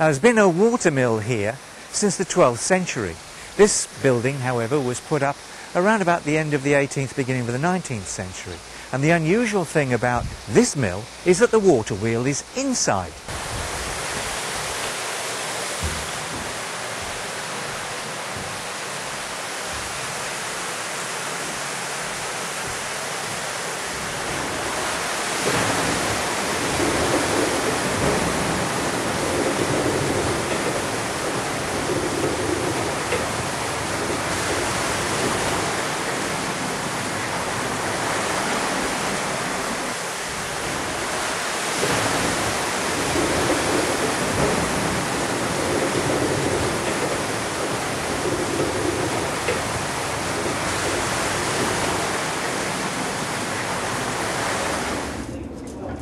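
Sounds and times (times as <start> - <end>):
water rushing through water wheel: 0.0 - 55.4.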